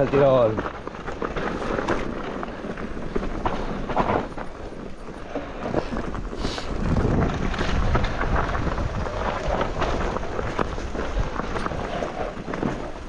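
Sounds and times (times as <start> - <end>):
mountain bike rumbling on rocky trail: 0.0 - 13.0
tyres on loose dirt and stones: 0.0 - 13.0
wind buffeting microphone: 0.0 - 13.0.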